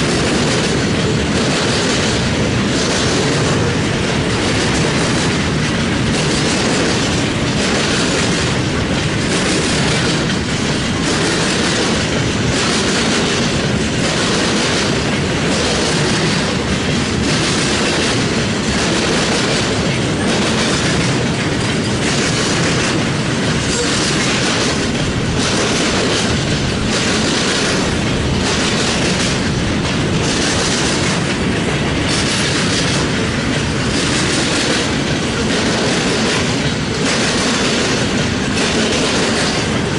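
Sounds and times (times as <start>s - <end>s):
freight train cars rolling: 0.0s - 39.9s
wheels clacking over rail joints: 0.0s - 39.9s.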